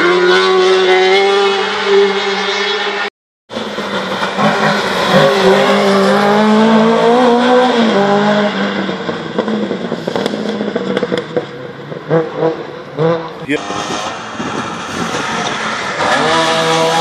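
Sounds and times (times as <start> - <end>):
car engine running hard: 0.4 - 17.0.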